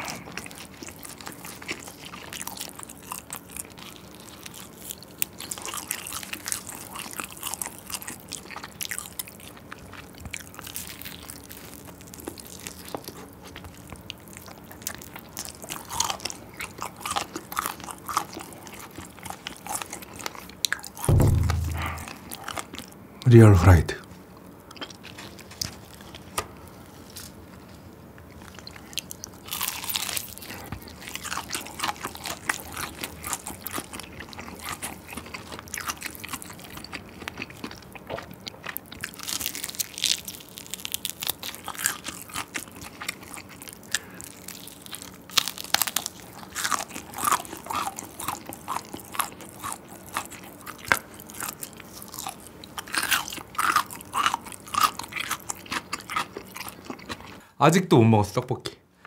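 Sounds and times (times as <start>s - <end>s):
fried chicken crunching and chewing: 0.0s - 57.5s.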